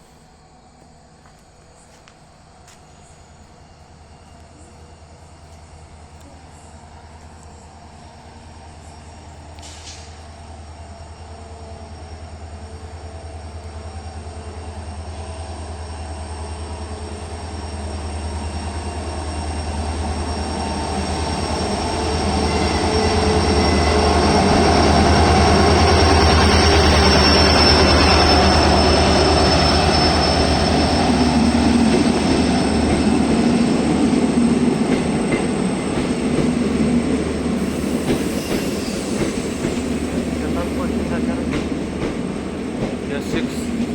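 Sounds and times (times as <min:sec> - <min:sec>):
train running through station: 0:00.0 - 0:43.9
wheels whining on rails: 0:00.0 - 0:43.9.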